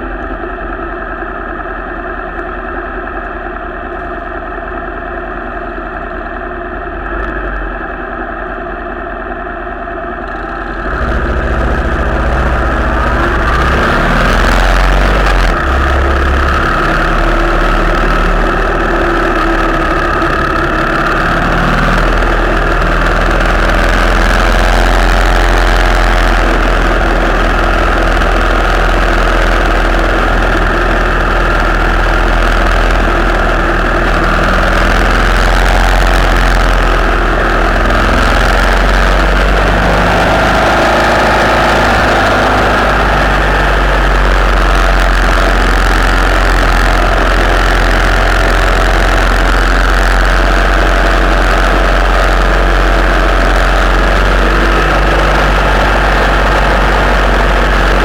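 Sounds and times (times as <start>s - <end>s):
motorcycle engines: 3.9s - 58.0s.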